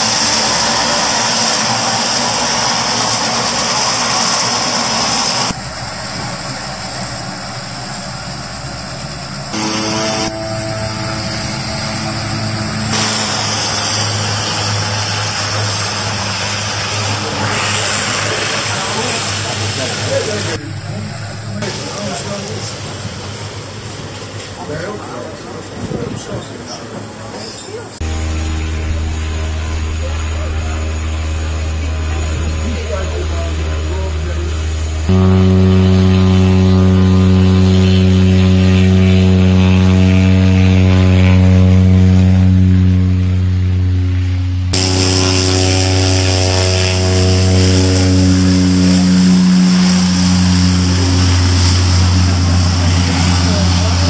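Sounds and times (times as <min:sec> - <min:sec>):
turboprop engine at high power: 0:00.0 - 0:54.0.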